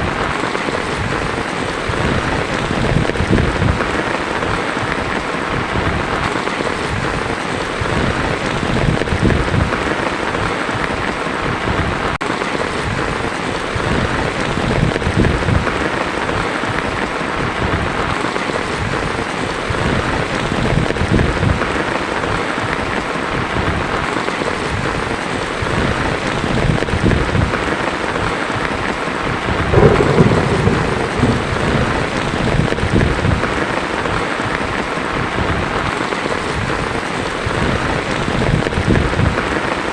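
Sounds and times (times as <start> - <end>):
thunder rumbling: 0.0 - 21.8, 25.6 - 36.8
heavy rain on a tin roof: 0.0 - 39.9.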